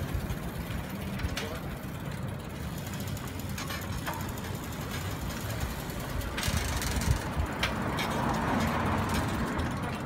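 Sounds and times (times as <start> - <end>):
bicycle tyres on road: 0.0 - 10.0.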